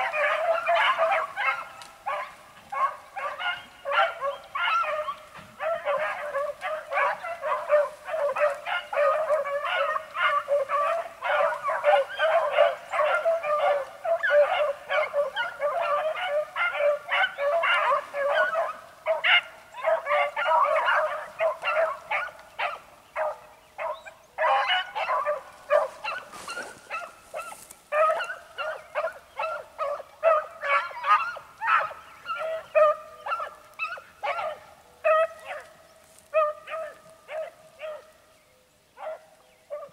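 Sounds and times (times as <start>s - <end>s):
hounds baying: 0.0s - 38.3s, 38.9s - 39.9s.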